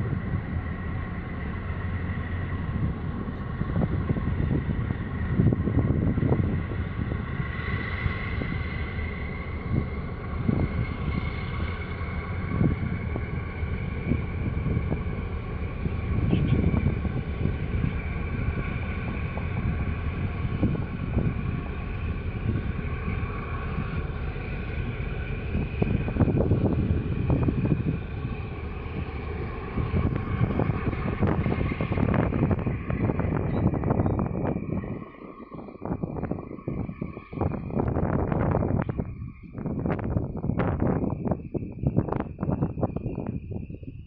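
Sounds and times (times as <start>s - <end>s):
constant high tones: 0.0s - 44.0s
ship and tug engines droning: 0.0s - 44.0s
wind buffeting microphone: 0.0s - 44.0s.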